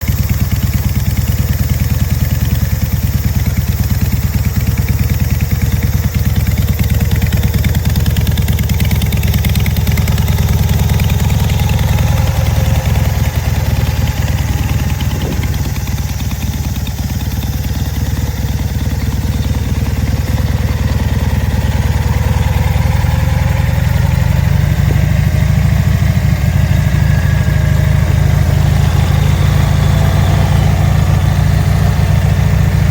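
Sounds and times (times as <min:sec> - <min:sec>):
engine idling: 0:00.0 - 0:32.9.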